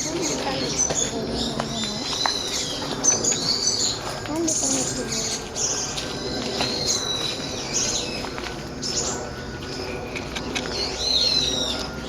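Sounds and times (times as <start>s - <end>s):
bulbuls calling shrilly: 0.0s - 12.0s.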